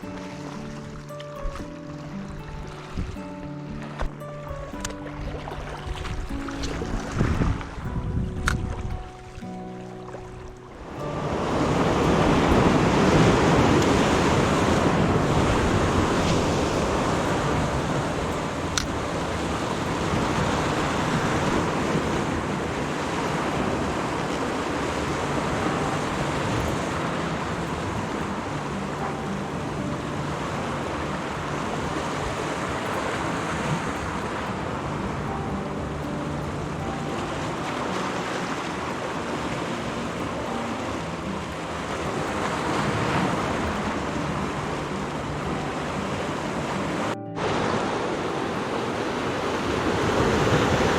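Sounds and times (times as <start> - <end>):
sea waves washing on shore: 0.0 - 50.9
wind: 0.0 - 50.9.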